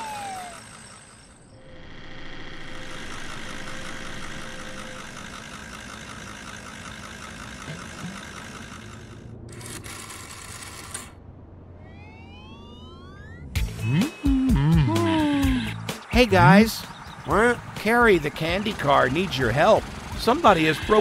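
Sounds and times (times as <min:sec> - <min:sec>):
cartoon van engine: 0:00.0 - 0:21.0.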